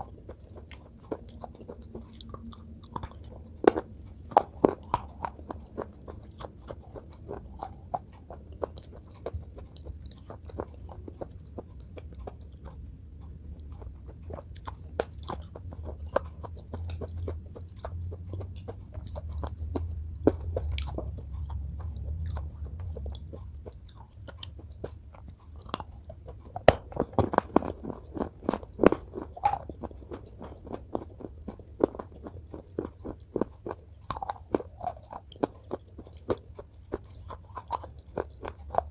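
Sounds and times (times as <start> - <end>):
crunching and chewing: 0.0 - 38.9.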